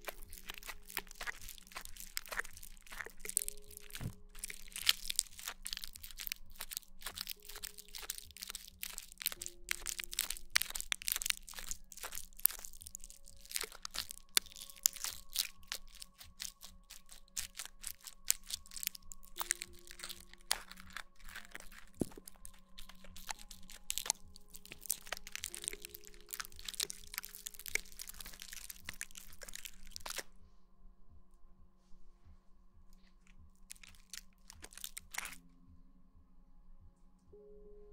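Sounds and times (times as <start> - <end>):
close crackling and crunching clicks: 0.0 - 30.3, 32.9 - 35.4.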